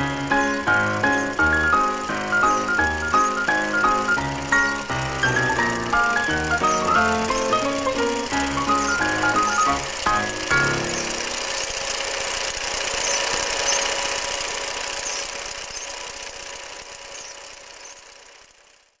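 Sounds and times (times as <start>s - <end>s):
film projector clattering: 0.0s - 19.0s.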